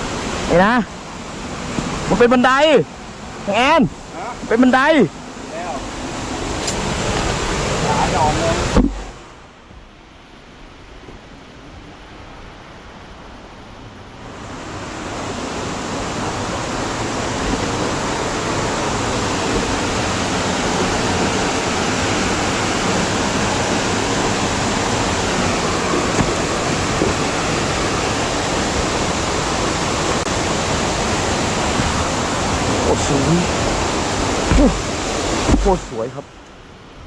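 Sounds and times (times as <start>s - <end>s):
waterfall rushing: 0.0s - 9.5s, 14.2s - 36.3s.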